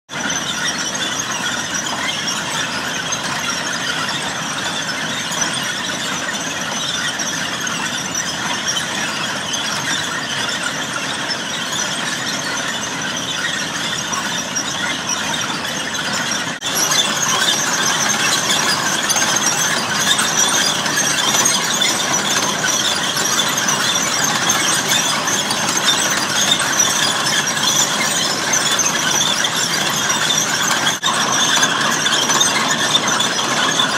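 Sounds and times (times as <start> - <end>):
mechanical squealing and grinding: 0.1 - 33.9.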